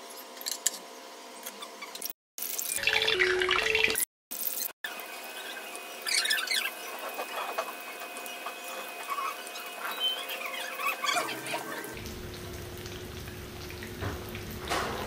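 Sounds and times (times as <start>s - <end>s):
food deep-frying in oil: 2.4s - 15.0s.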